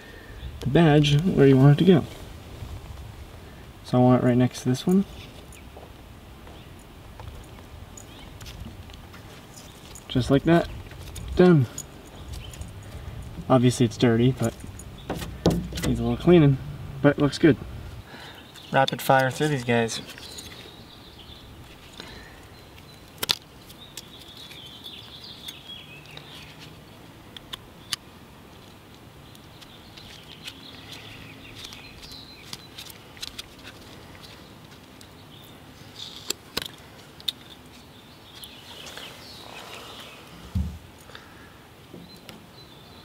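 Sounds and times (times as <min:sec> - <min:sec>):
handling noises: 0:04.8 - 0:20.8, 0:21.6 - 0:41.2.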